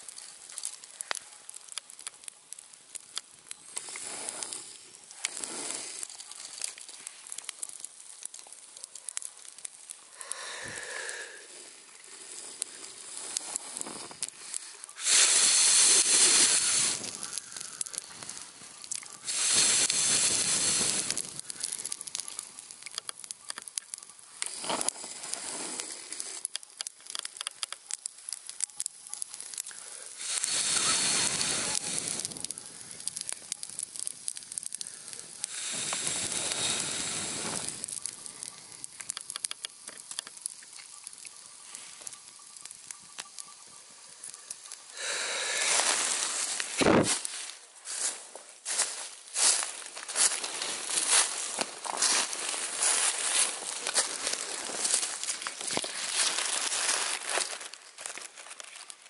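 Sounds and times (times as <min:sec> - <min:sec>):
campfire crackling and popping: 0:00.0 - 0:59.0
rushing hiss: 0:02.9 - 0:58.9.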